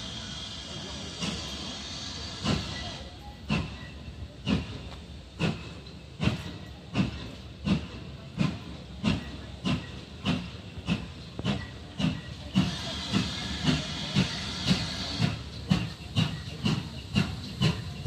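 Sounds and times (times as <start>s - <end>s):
hiss of steam: 0.0s - 18.0s
steam locomotive exhaust chuffs: 0.0s - 18.0s.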